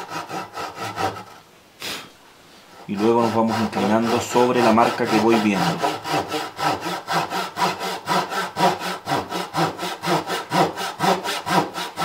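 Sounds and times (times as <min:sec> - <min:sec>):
hand saw cutting wood: 0:00.0 - 0:01.4, 0:02.7 - 0:12.0.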